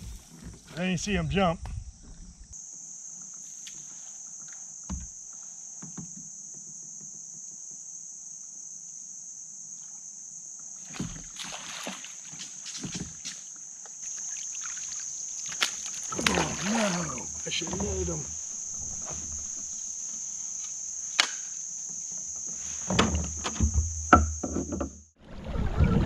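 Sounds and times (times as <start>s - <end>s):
insects singing: 0.0s - 25.0s.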